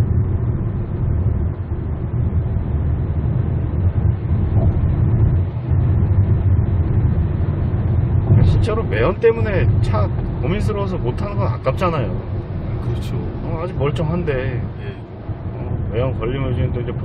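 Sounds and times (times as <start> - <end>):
road and engine rumble in car: 0.0 - 17.0.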